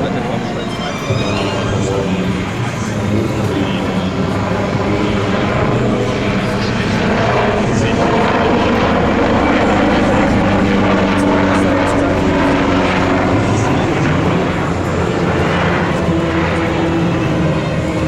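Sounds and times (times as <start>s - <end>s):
helicopter rotor and turbine: 0.0s - 18.0s.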